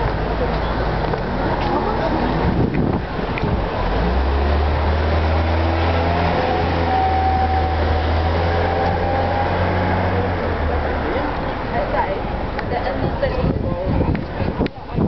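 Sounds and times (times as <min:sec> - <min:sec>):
heavy engine droning: 0:00.2 - 0:12.6.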